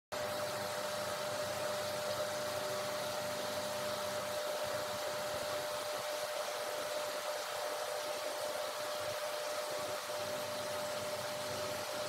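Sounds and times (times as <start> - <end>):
machine hum and hiss: 0.2 - 12.0.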